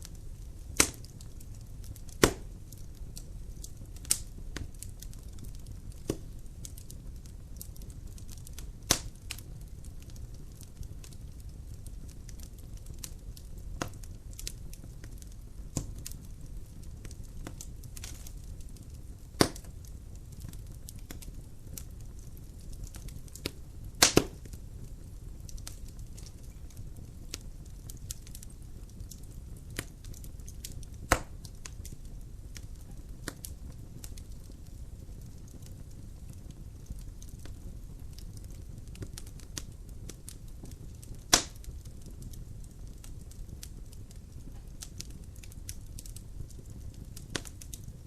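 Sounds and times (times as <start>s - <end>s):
logs crackling and popping: 0.0s - 48.0s
low rumble of fire: 0.0s - 48.0s.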